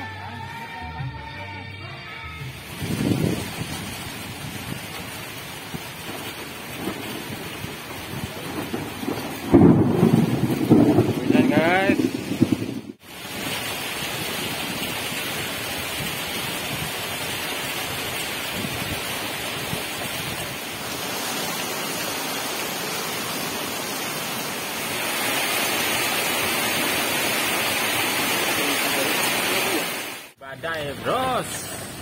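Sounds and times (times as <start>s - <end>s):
heavy rain on a lake: 2.4s - 32.0s.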